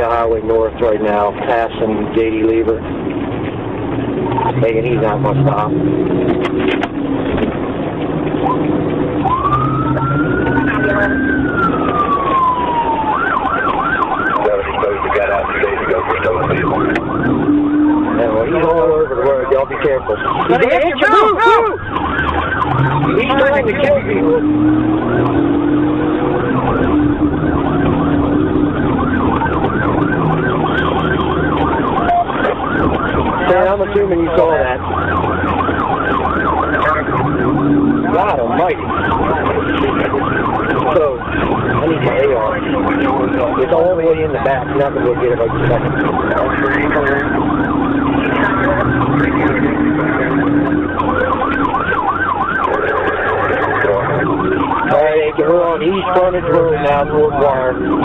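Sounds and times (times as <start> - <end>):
engine and road noise: 0.0 - 58.0
police siren yelping: 0.0 - 58.0.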